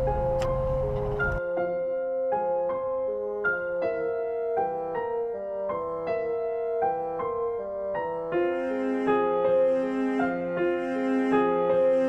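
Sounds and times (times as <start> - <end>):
gentle keyboard melody: 0.0 - 12.0.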